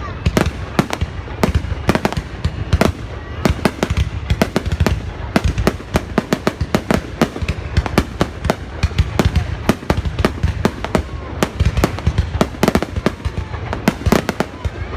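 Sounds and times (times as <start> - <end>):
fireworks bangs and cracks: 0.0 - 14.9.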